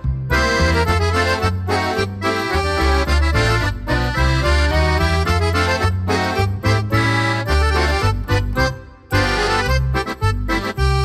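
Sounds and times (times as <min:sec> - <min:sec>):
accordion folk music: 0:00.0 - 0:11.0
bass line: 0:00.0 - 0:11.0.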